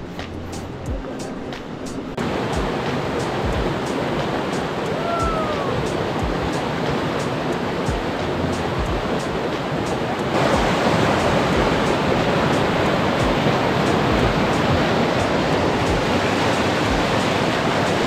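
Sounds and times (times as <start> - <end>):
river rushing: 0.1 - 18.0.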